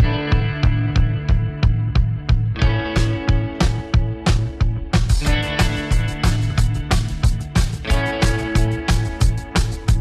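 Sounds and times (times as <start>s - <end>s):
guitar music with drum beat: 0.0s - 10.0s.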